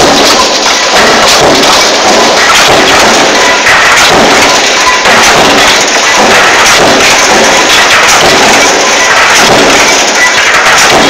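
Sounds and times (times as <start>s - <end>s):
power press clattering: 0.0s - 11.0s.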